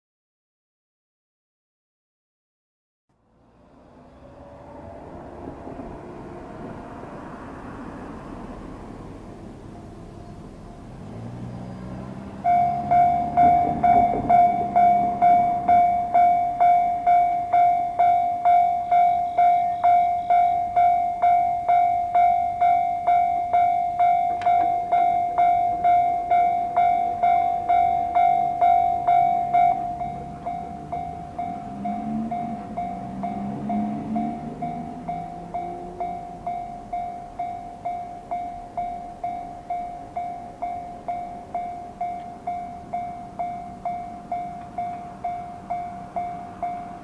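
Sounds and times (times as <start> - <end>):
level crossing warning bell: 8.4 - 47.0.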